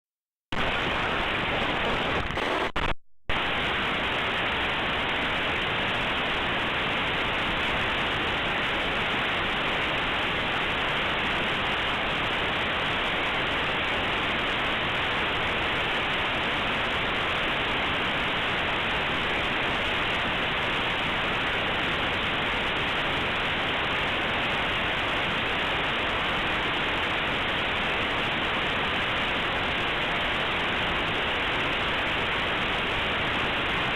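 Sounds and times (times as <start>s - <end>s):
static hiss: 0.5s - 33.9s.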